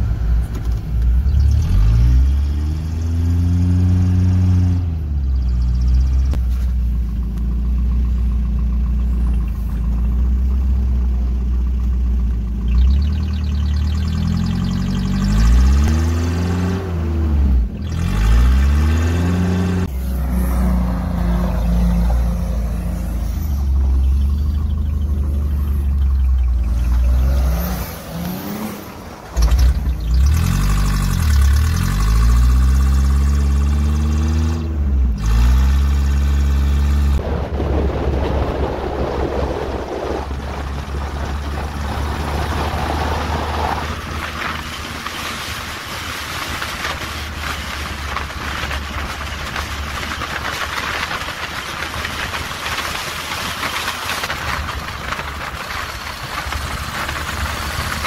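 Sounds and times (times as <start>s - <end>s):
car engine revving: 0.0s - 58.0s
engine and road noise inside car: 0.0s - 58.0s.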